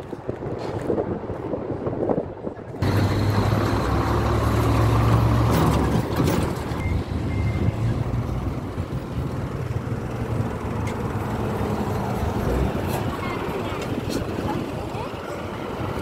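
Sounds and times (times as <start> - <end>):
road noise rushing: 0.0 - 16.0
low engine hum: 2.6 - 16.0.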